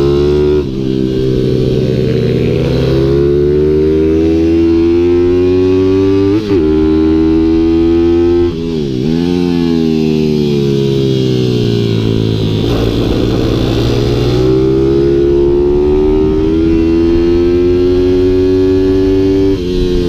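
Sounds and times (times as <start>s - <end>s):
motorbike engine revving: 0.0s - 20.0s.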